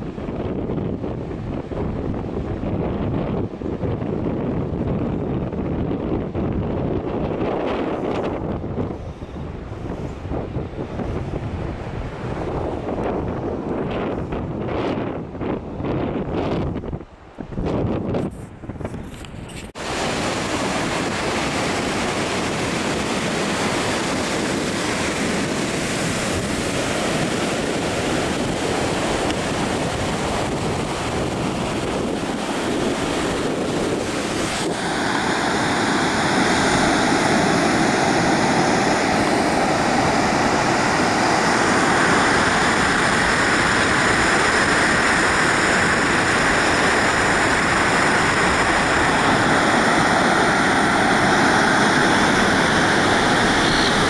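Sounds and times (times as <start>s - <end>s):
surf breaking on a beach: 0.0s - 54.0s
wind on the microphone: 0.0s - 54.0s.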